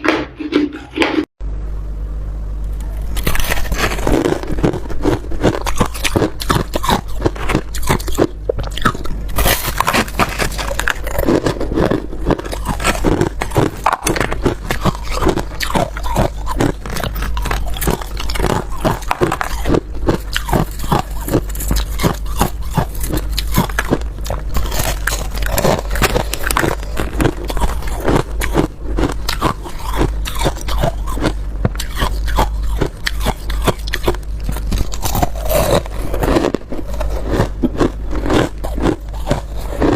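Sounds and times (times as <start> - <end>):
ice crunching being chewed: 3.1 - 39.9.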